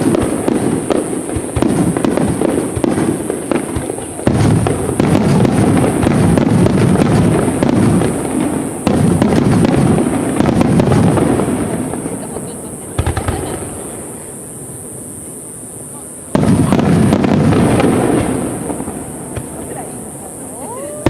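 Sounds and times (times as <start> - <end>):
fireworks booms and crackles: 0.0 - 21.0.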